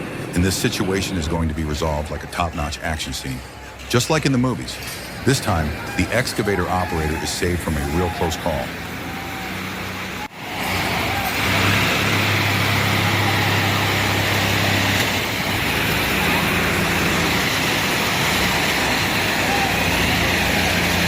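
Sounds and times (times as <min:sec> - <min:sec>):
heavy machine engine running: 0:00.0 - 0:01.6, 0:04.8 - 0:21.0.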